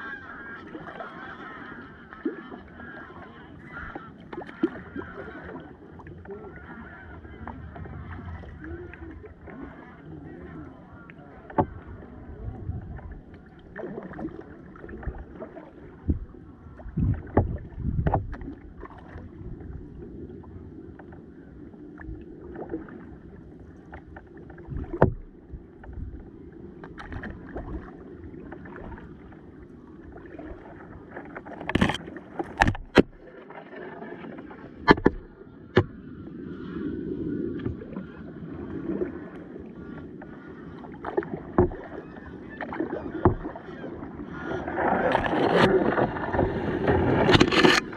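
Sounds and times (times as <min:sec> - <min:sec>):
paddle strokes: 0:00.0 - 0:47.9.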